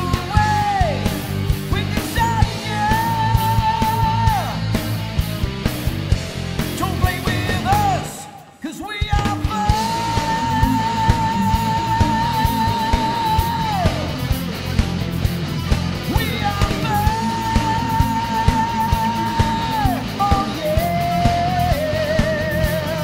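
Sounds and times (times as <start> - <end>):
heavy metal song: 0.0 - 23.0
rough lead vocal: 0.0 - 23.0.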